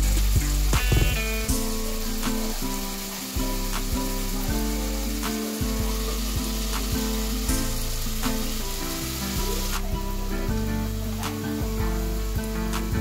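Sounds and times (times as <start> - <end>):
background music with steady beat: 0.0 - 13.0
onions sizzling in hot oil: 0.0 - 13.0.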